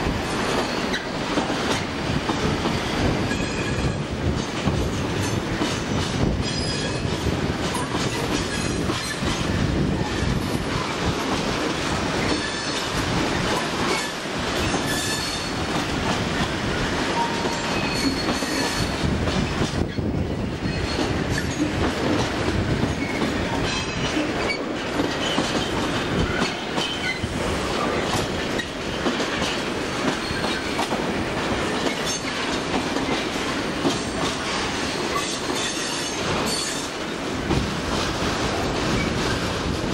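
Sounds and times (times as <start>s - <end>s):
train wheels clattering: 0.0s - 39.9s.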